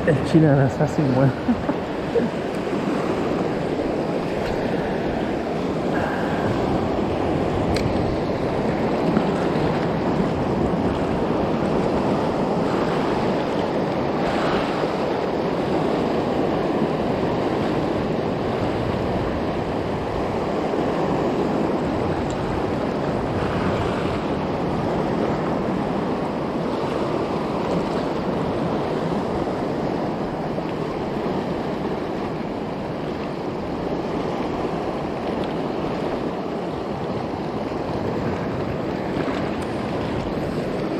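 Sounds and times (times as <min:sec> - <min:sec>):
surf washing over rocks: 0:00.0 - 0:40.9.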